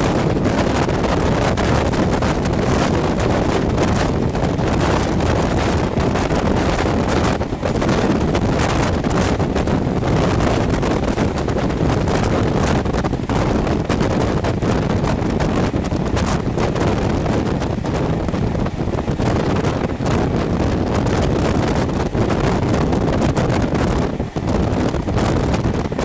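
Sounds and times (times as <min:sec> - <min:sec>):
train rumbling along track: 0:00.0 - 0:26.0
wind buffeting microphone: 0:00.0 - 0:26.0.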